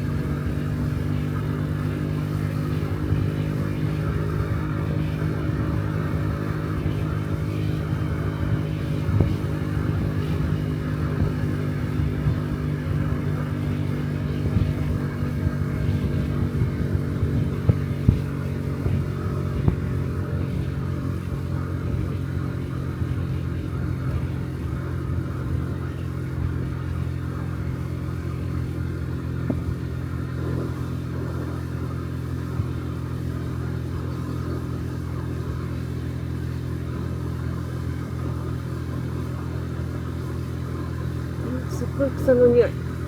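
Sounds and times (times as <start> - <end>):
scooter engine running: 0.0 - 43.0.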